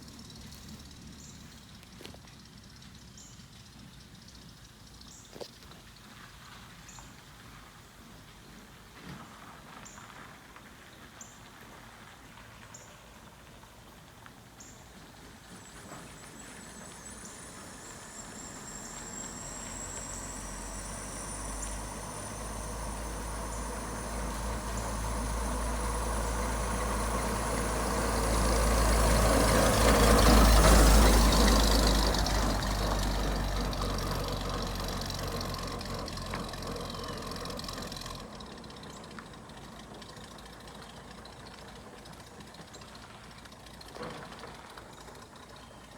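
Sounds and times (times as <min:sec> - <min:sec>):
pickup truck driving past: 0:00.0 - 0:05.1, 0:13.6 - 0:45.9.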